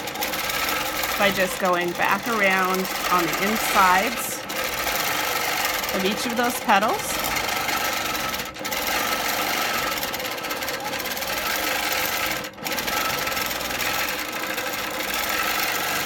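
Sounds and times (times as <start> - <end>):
quilting machine running: 0.0 - 16.0.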